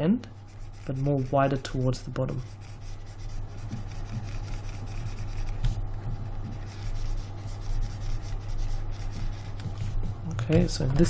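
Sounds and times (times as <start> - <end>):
steady low hum: 0.0 - 11.0
faint rubbing and scratching: 0.3 - 11.0.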